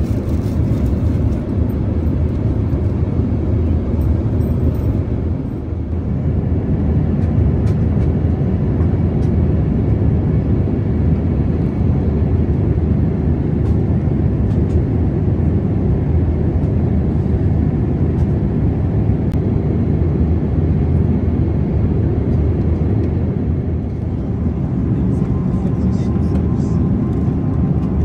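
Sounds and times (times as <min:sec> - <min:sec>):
airplane cabin engine drone: 0:00.0 - 0:28.0.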